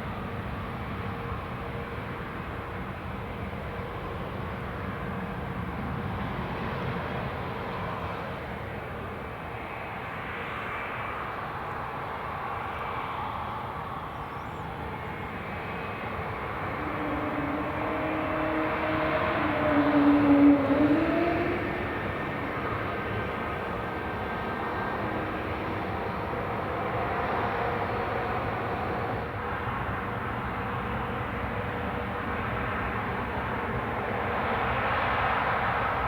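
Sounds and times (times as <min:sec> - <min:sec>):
jet engines roaring: 0:03.9 - 0:36.0.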